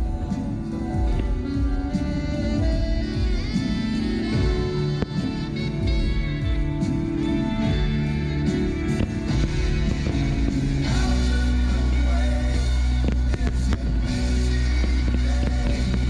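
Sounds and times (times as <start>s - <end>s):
deep steady bass: 0.0s - 16.0s
loud music: 0.0s - 16.0s.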